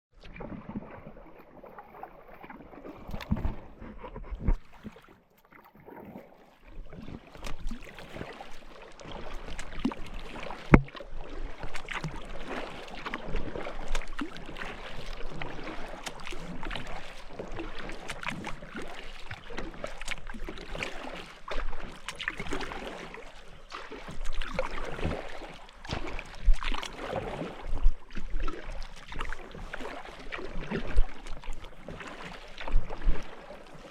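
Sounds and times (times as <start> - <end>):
paddle splashing and dripping: 0.1 - 33.9.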